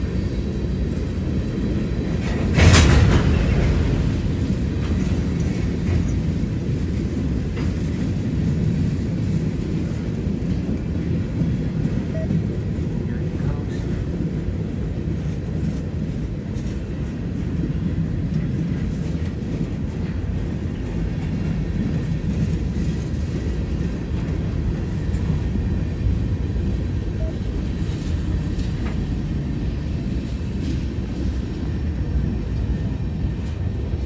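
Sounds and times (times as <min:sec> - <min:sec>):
diesel locomotive engine rumbling: 0:00.0 - 0:34.0.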